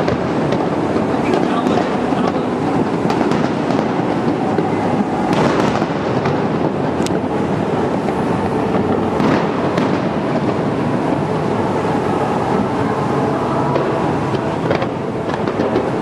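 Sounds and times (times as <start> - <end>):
sharp firework cracks: 0.0 - 11.8, 13.6 - 16.0
fireworks booming and crackling: 0.0 - 16.0.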